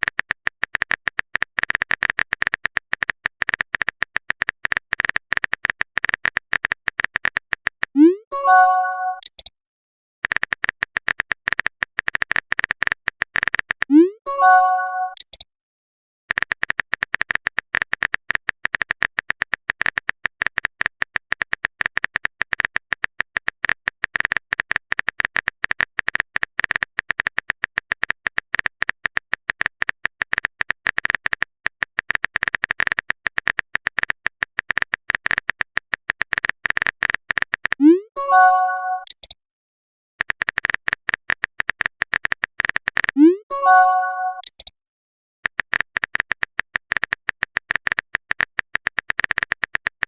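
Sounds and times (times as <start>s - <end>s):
rapid high electronic clicks: 0.0s - 8.0s, 10.2s - 13.9s, 16.3s - 39.4s, 40.2s - 44.7s, 45.4s - 50.0s.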